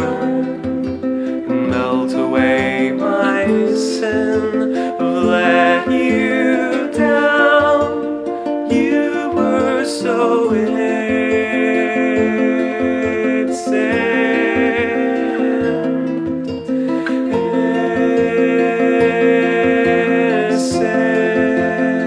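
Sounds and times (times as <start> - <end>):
plucked strings melody: 0.0 - 22.0
sustained pitched notes: 0.0 - 22.0.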